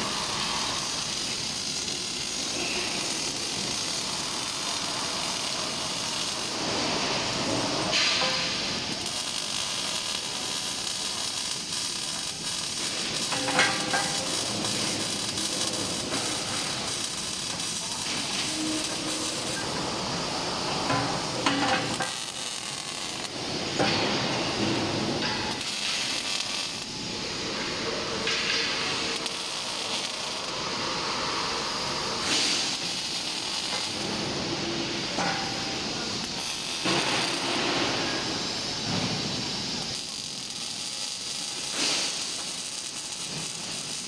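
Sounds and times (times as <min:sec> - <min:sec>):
welding arc hissing and crackling: 0:00.0 - 0:44.0.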